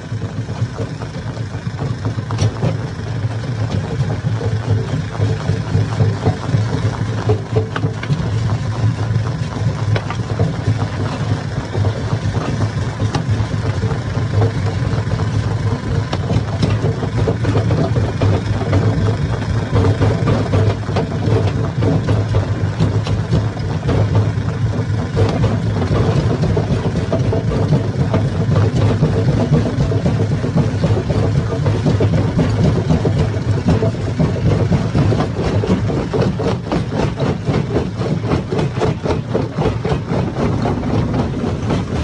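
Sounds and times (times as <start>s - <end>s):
stone crusher running: 0.0s - 42.0s.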